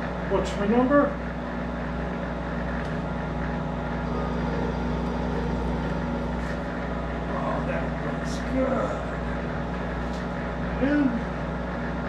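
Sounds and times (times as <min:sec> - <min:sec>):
lathe running with hum: 0:01.0 - 0:12.0.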